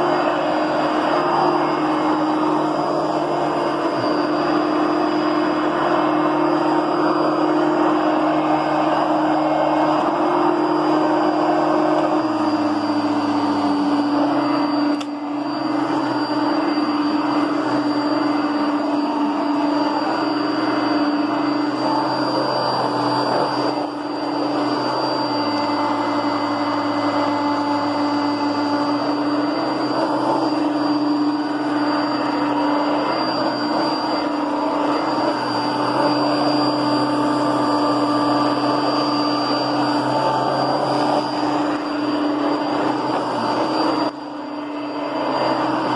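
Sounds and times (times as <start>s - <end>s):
upright vacuum cleaner running: 0.0s - 45.9s.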